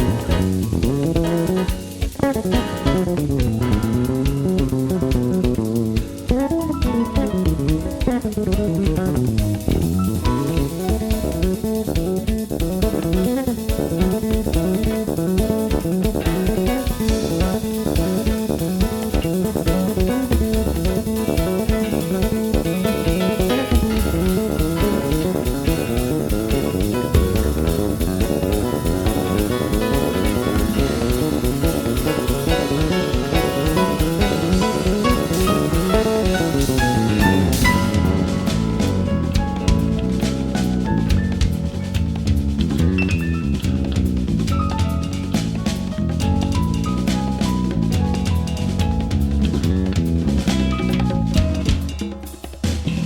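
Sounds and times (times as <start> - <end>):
instrumental guitar music with drums: 0.0 - 53.0.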